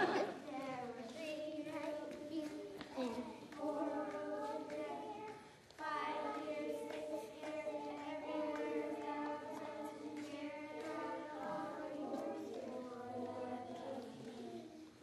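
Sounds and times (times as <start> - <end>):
children singing: 0.0 - 2.3, 3.0 - 15.0.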